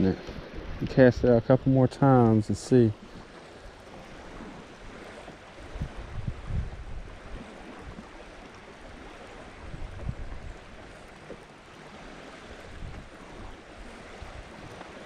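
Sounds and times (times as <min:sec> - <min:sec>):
wind buffeting microphone: 0:00.0 - 0:11.2, 0:11.9 - 0:15.0
choppy water lapping around boat: 0:00.0 - 0:15.0.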